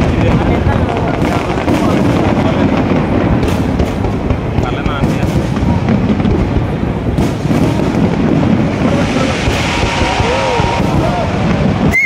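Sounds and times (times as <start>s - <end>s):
crackling hiss: 0.0s - 12.0s
fireworks exploding: 0.0s - 12.0s
sharp firework bang: 0.0s - 12.0s.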